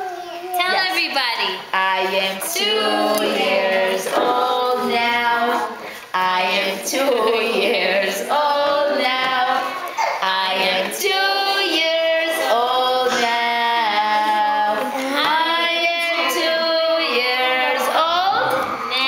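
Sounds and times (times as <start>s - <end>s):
women and children singing: 0.0s - 19.0s.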